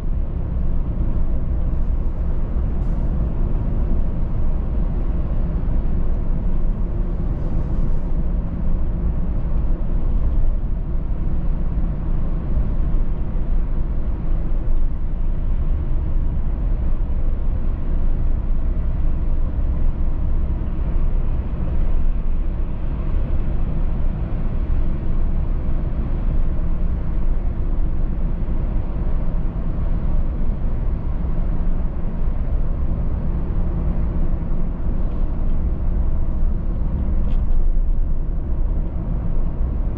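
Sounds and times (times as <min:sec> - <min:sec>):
car driving at road speed: 0:00.0 - 0:39.9.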